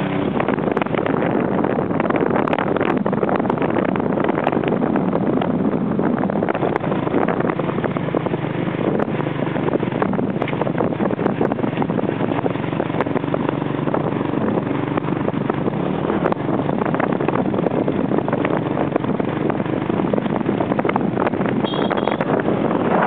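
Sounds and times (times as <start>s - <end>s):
motorbike engine running: 0.0s - 23.0s
wind rushing over microphone: 0.0s - 23.0s.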